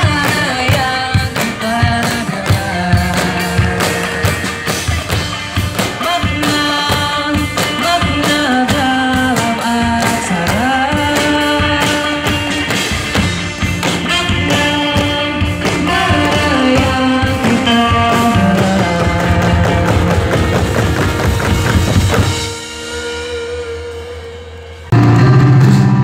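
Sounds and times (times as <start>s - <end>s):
drums: 0.0s - 26.0s
live band music: 0.0s - 26.0s.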